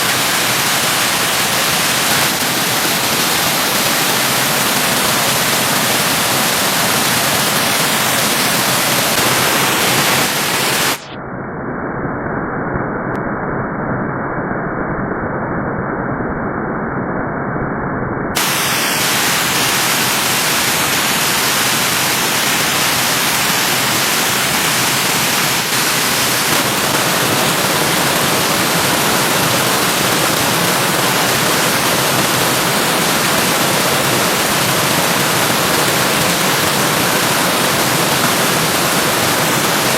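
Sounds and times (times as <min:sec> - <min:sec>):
stream water rushing: 0:00.0 - 0:11.0, 0:18.4 - 0:39.9.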